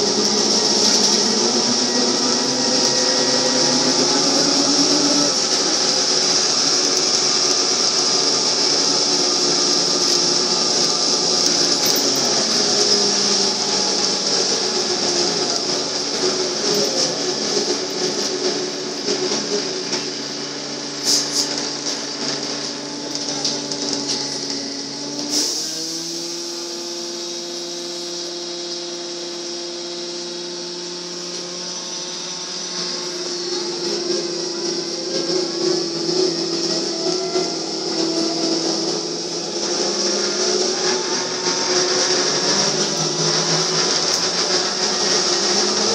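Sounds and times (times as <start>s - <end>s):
hiss: 0.0s - 22.1s, 24.4s - 45.9s.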